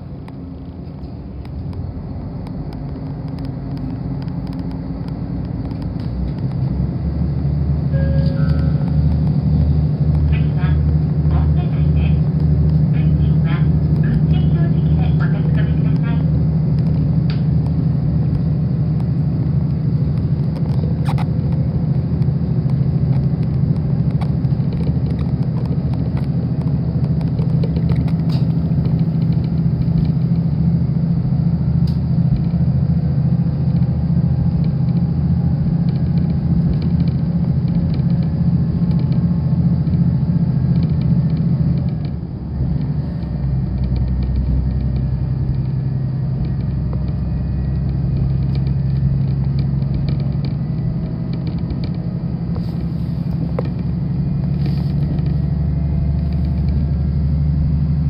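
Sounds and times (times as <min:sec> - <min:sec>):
diesel railcar engine drone: 0:00.0 - 0:58.0.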